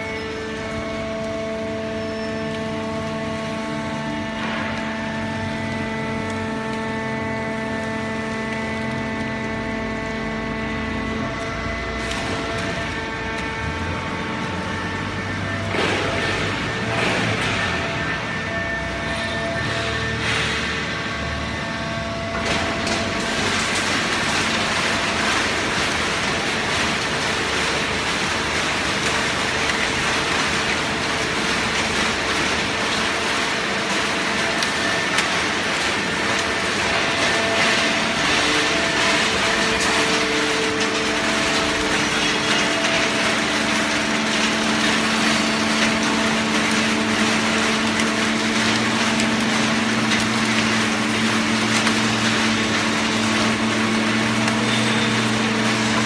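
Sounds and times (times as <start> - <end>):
hydraulic baler running: 0.0 - 56.0.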